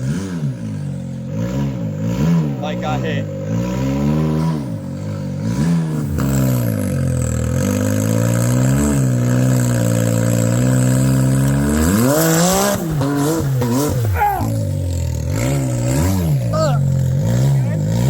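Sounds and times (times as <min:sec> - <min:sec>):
utility vehicle engine revving: 0:00.0 - 0:18.0.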